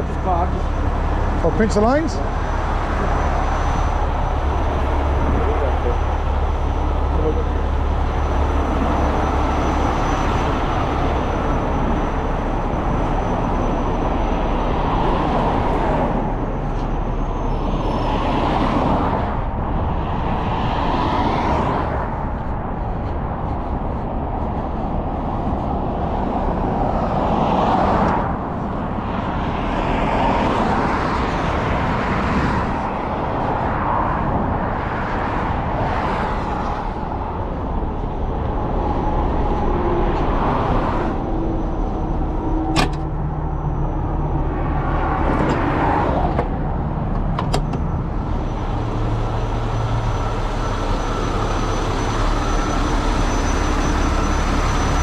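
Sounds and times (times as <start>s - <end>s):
heavy truck engine running: 0.0s - 20.9s, 21.5s - 55.0s
rushing noise: 0.0s - 55.0s.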